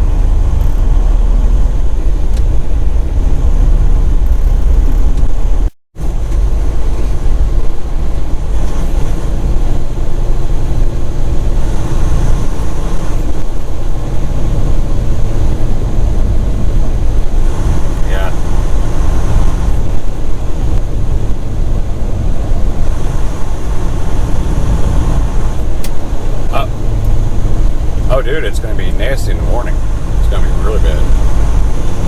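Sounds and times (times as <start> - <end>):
truck engine rumble in cab: 0.0 - 32.0.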